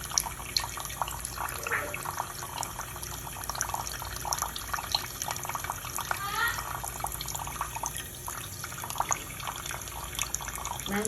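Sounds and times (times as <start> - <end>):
water running into a sink: 0.0 - 11.0.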